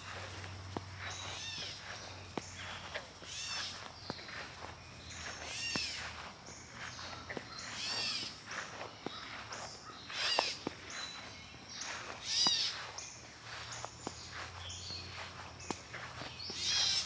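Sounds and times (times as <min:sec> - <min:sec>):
footsteps scuffing on path: 0:00.0 - 0:17.0.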